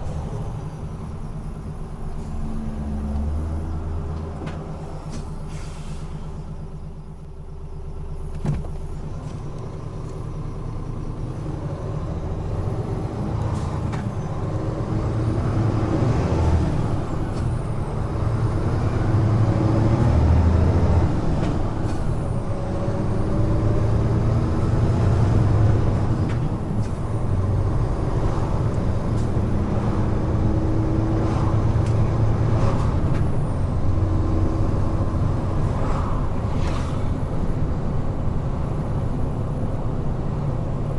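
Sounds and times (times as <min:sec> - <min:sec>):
truck diesel engine under load: 0:00.0 - 0:40.9
tyre and road noise: 0:00.0 - 0:40.9.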